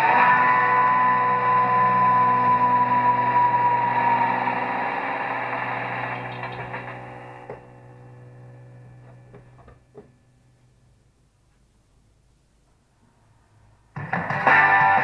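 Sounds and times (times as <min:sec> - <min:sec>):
steady mechanical hum: 0:00.8 - 0:13.8.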